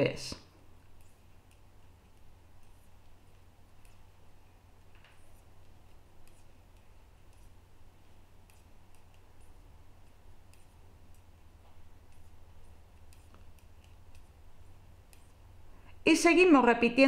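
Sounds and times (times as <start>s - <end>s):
knitting needles clicking: 0.8s - 15.5s.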